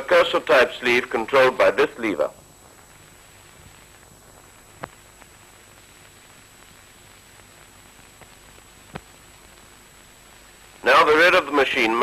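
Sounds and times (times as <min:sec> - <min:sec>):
old recording hiss: 0:00.0 - 0:12.0.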